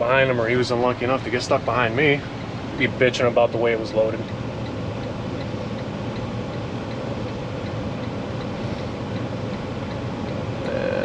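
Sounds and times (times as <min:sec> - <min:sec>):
diesel engine: 0:00.0 - 0:11.0
light even ticking: 0:00.0 - 0:11.0
road noise: 0:00.0 - 0:11.0.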